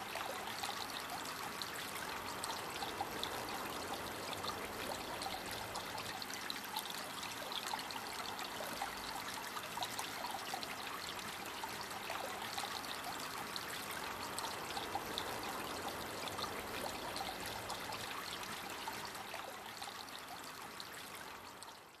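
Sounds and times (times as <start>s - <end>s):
fountain water splashing: 0.0s - 21.9s.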